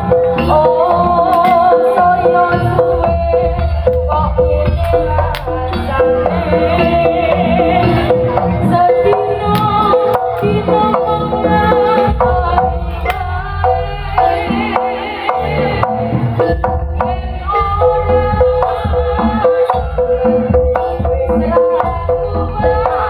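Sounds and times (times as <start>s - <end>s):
ringing gamelan notes: 0.0s - 23.0s
wavering melody line: 0.0s - 23.0s.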